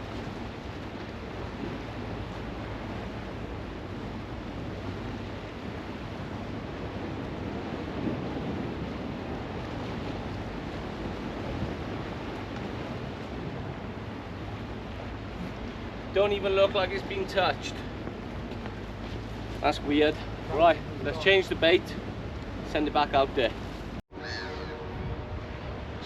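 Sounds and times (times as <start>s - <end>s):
sea surf rushing: 0.0s - 26.0s
wind buffeting microphone: 0.0s - 26.0s.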